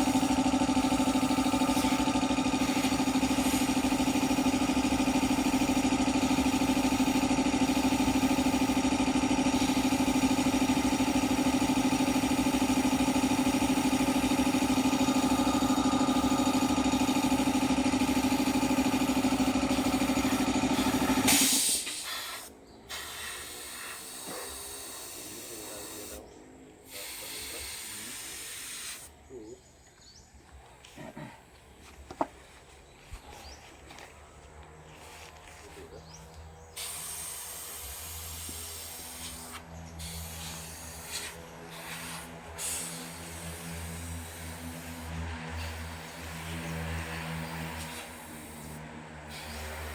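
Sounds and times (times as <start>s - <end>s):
air hissing: 0.0s - 26.2s, 26.8s - 29.2s, 36.7s - 46.8s, 47.5s - 49.9s
airbrush spraying paint: 0.0s - 26.2s, 26.8s - 29.1s, 36.7s - 49.9s
air compressor humming: 0.0s - 29.4s, 30.9s - 49.9s.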